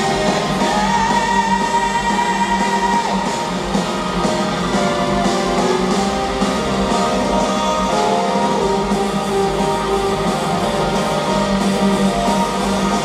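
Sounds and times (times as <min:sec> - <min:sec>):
guitar: 0:00.0 - 0:13.0
rock band playing: 0:00.0 - 0:13.0
steady drum beat: 0:00.0 - 0:13.0.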